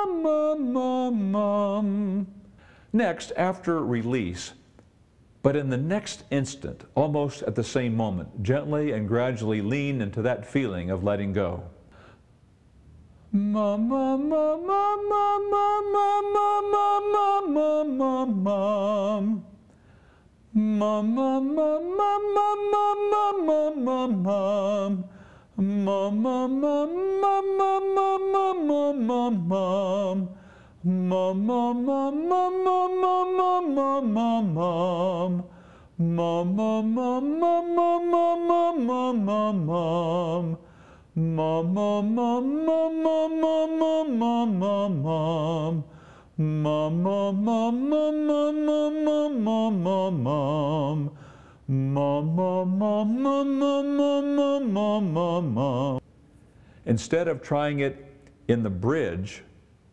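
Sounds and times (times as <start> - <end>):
man singing vocal exercise: 0.0 - 4.6, 5.4 - 11.8, 13.3 - 19.6, 20.5 - 56.0.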